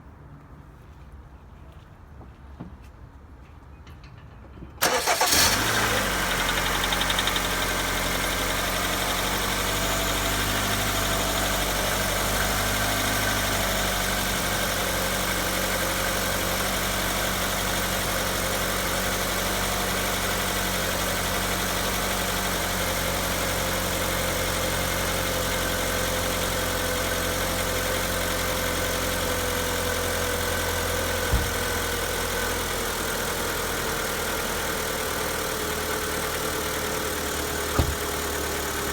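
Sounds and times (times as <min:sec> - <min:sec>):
car engine starting and idling: 0:04.8 - 0:38.9.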